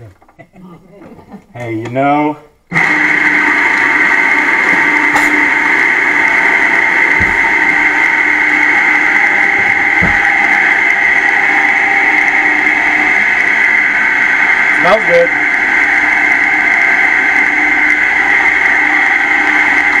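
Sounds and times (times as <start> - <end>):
food processor motor whining: 2.7 - 20.0.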